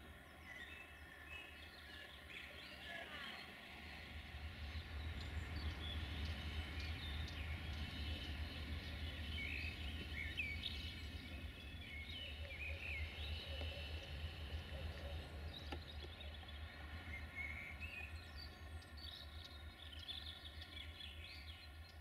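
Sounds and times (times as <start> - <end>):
small birds chirping: 0.0 - 22.0
low rumble: 3.7 - 21.7.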